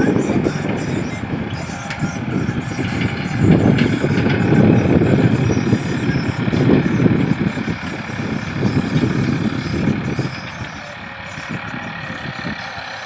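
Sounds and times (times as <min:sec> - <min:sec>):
tractor engine working hard: 0:00.0 - 0:13.0.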